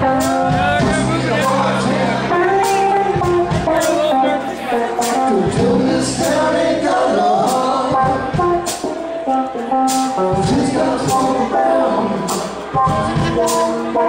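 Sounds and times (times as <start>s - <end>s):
electric bass: 0.0s - 14.0s
electric guitar notes: 0.0s - 14.0s.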